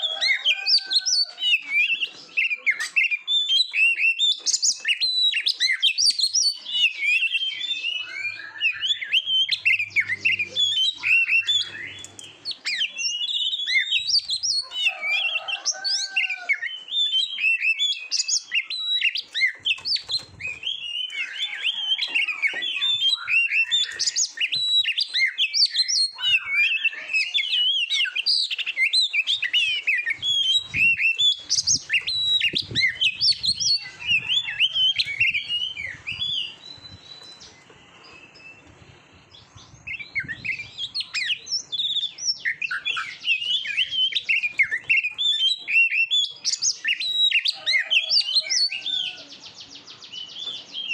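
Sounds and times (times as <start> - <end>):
bird singing whistled trills: 0.0 - 15.4, 16.0 - 38.7, 39.5 - 49.2.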